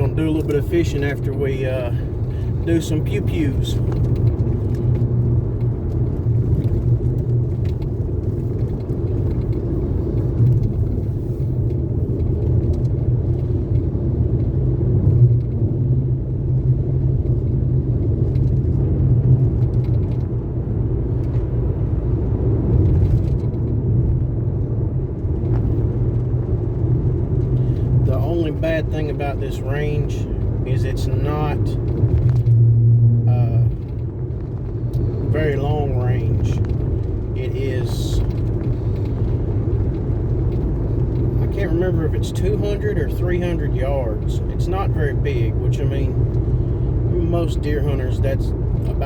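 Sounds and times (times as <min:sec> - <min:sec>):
car engine and tyres rumbling: 0:00.0 - 0:49.0.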